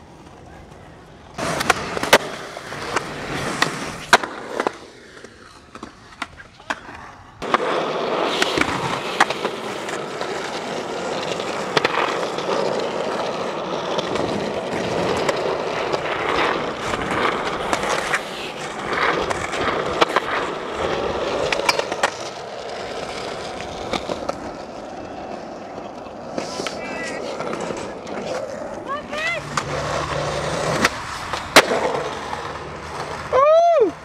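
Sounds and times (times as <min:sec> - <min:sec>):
skateboard clacks: 0:00.0 - 0:34.0
skateboard wheels rolling on asphalt: 0:00.0 - 0:34.0.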